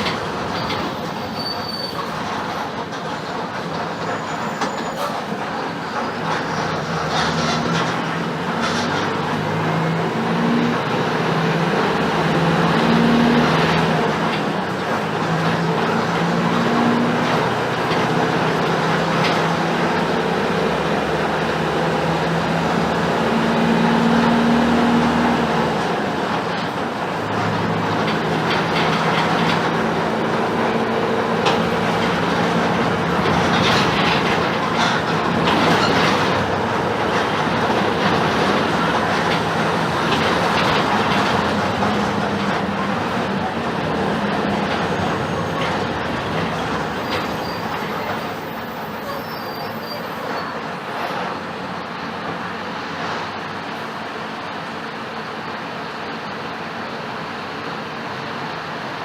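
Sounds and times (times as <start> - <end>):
bus body rattling and clicking: 0.0 - 59.0
bus diesel engine running: 0.0 - 59.0.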